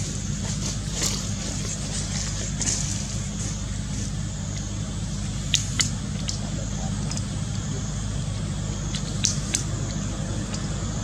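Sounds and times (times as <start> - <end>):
constant hiss: 0.0 - 11.0
low hum: 0.0 - 11.0.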